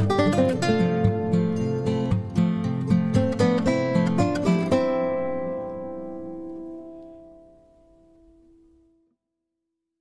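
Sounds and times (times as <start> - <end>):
acoustic guitar music: 0.0 - 9.1.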